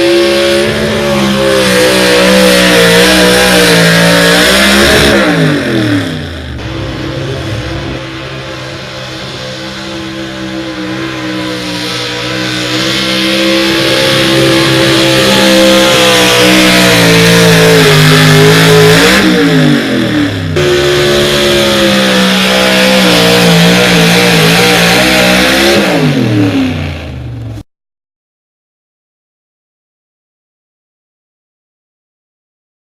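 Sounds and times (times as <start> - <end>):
truck engine at full throttle: 0.0 - 27.6.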